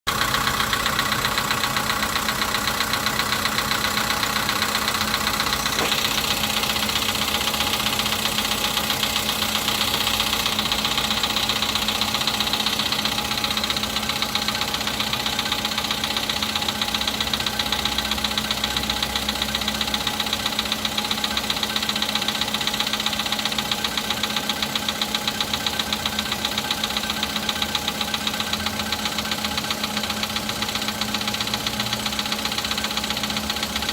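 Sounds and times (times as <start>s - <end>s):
car engine idling: 0.1s - 33.9s
rapid engine knock: 0.1s - 33.9s.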